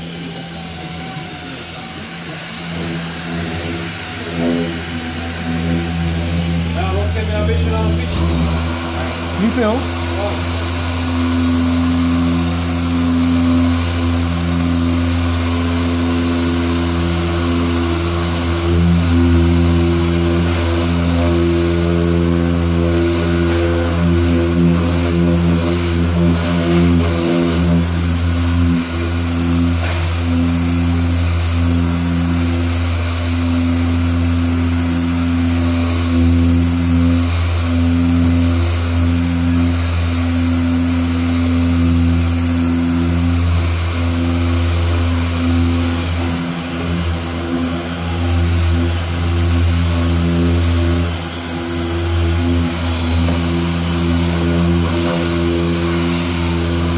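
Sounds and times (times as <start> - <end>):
power sander whining: 0.0 - 56.9.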